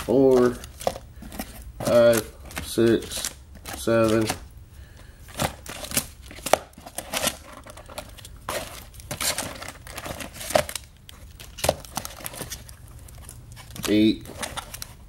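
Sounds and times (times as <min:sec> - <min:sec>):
plastic coin bags crinkling: 0:00.0 - 0:15.0.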